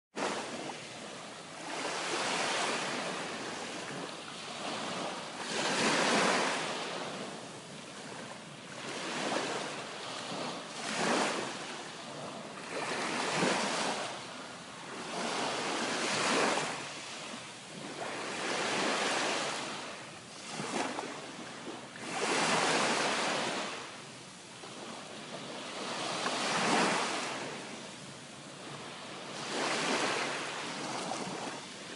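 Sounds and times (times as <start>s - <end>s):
ocean waves breaking: 0.2s - 31.9s.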